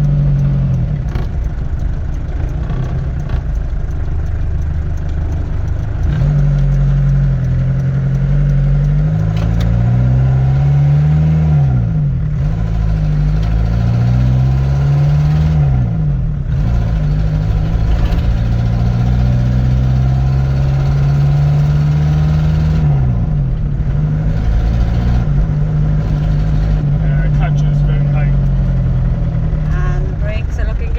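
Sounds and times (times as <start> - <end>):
van engine pulling under load: 0.0 - 30.9.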